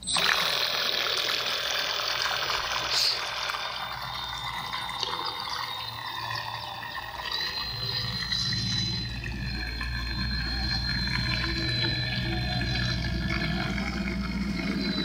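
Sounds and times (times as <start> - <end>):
propeller churning water: 0.0 - 15.0
rc boat motor high whine: 0.0 - 15.0.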